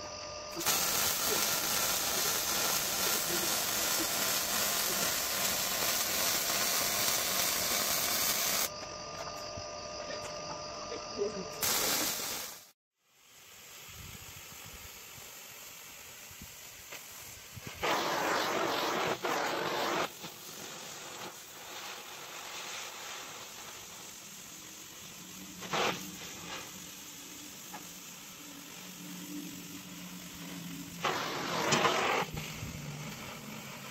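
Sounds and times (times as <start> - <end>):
plasma cutter hissing: 0.0 - 8.7, 11.1 - 33.9.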